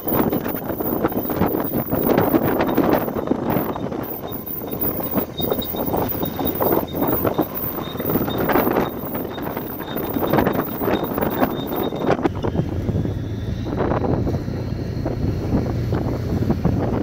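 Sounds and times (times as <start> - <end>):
boat engine rumble: 0.0 - 17.0
wind buffeting microphone: 0.0 - 17.0.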